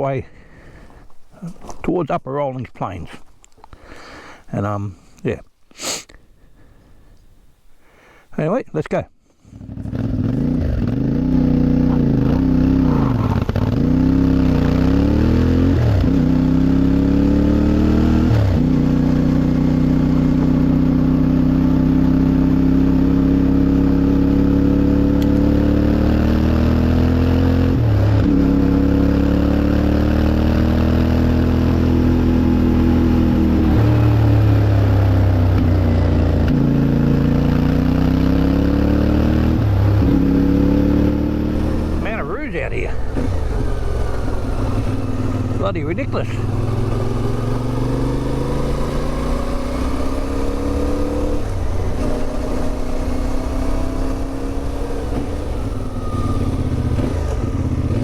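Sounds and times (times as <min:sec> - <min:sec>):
motorcycle engine accelerating: 0:09.5 - 0:58.0.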